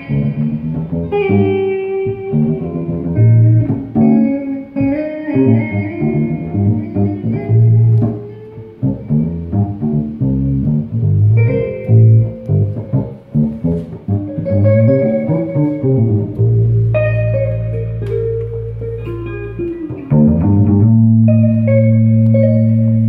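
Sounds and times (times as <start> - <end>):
electric bass line: 0.0 - 23.0
electric guitar notes: 0.0 - 23.0.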